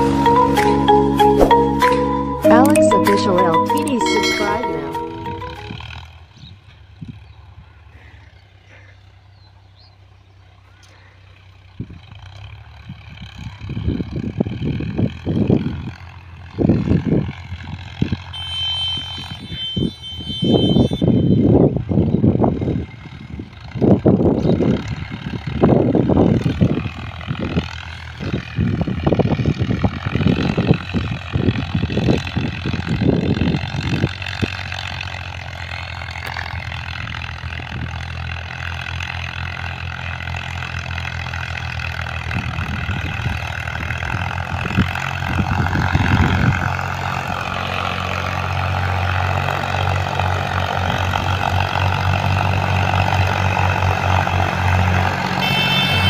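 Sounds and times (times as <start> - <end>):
distant tractor engines humming: 0.0 - 56.0.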